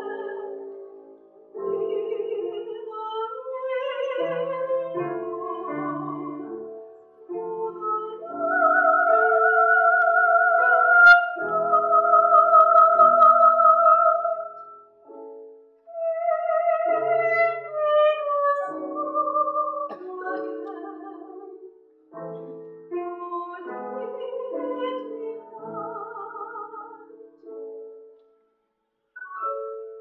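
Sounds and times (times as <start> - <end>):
soprano singing with vibrato: 0.0 - 0.9, 1.6 - 14.8, 15.9 - 21.8, 22.9 - 27.4
grand piano accompaniment: 0.0 - 28.5, 29.2 - 30.0.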